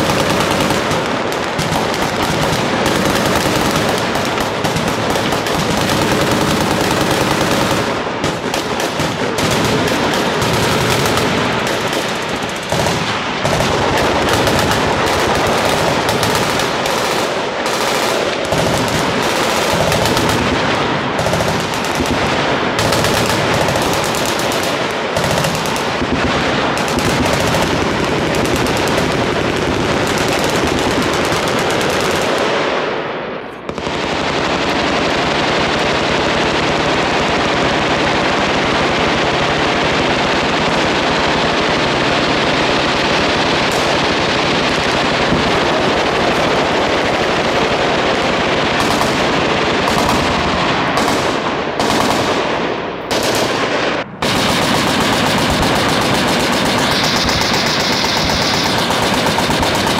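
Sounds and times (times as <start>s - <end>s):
machine guns firing: 0.0s - 59.9s.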